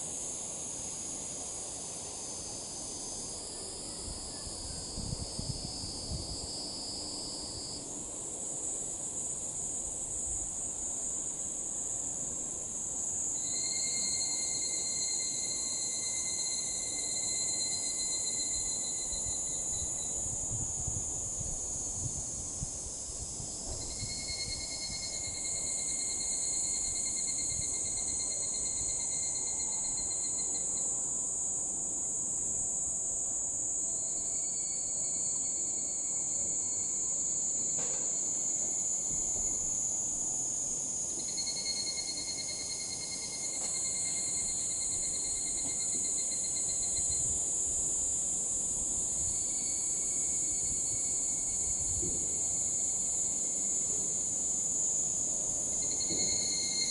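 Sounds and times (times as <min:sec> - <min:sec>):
cicadas trilling: 0:00.0 - 0:56.9
high-pitched insect drone: 0:08.6 - 0:56.9.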